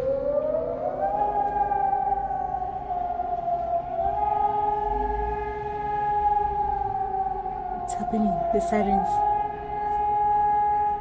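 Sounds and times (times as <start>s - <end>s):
warning siren: 0.0s - 11.0s.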